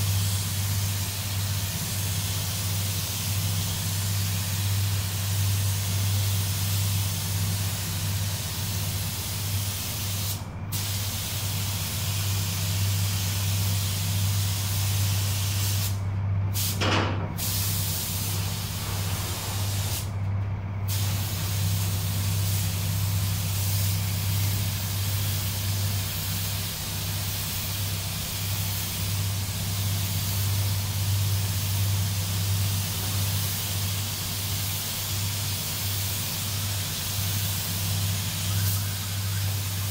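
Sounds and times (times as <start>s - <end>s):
spray gun hissing: 0.0s - 16.0s, 16.6s - 16.8s, 17.4s - 20.1s, 20.8s - 39.9s
steady low hum: 0.0s - 39.9s.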